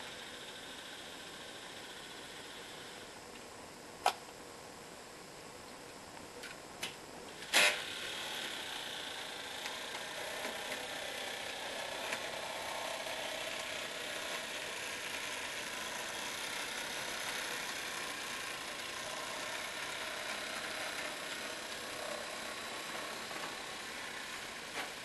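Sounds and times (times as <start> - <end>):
model locomotive whirring: 0.0 - 3.3, 7.3 - 25.0.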